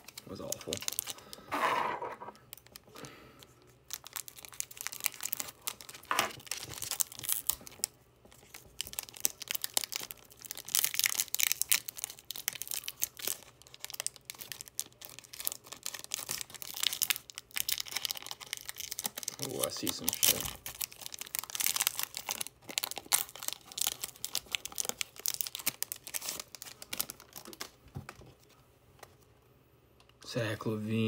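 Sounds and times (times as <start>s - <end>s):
foil wrapper crinkling and tearing: 0.0s - 1.4s, 2.5s - 27.8s.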